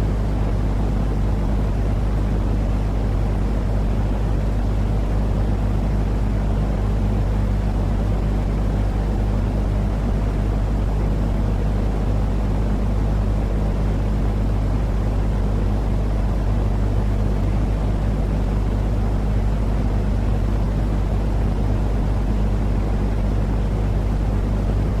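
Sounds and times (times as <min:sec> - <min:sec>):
constant low hum: 0:00.0 - 0:25.0
deep rumbling white noise: 0:00.0 - 0:25.0.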